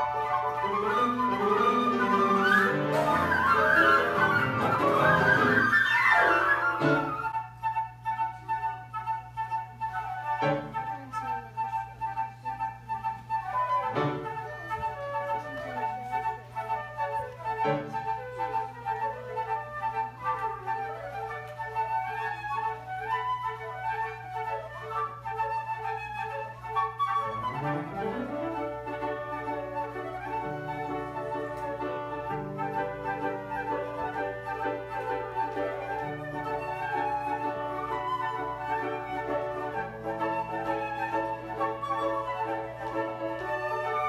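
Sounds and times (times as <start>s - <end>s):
piano: 0.0s - 44.0s
recorder ensemble playing: 0.0s - 44.0s.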